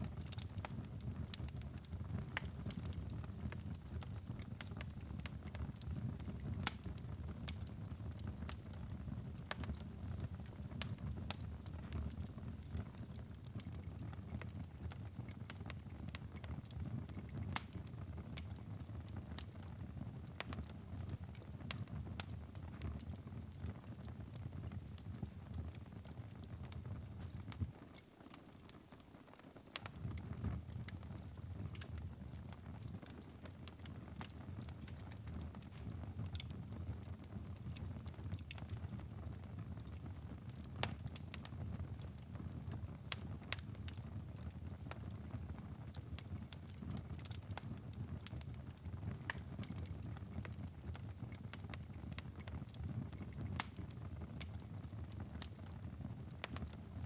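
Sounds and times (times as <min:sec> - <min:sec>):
low rumble of flames: 0:00.0 - 0:27.8, 0:29.8 - 0:57.0
wood fire crackling: 0:00.0 - 0:57.0.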